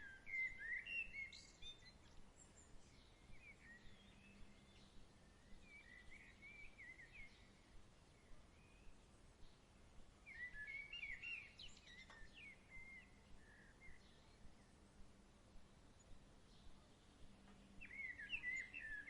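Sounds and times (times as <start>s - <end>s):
faint birdsong chirps: 0.0s - 19.0s
soft steady hiss: 0.0s - 19.0s.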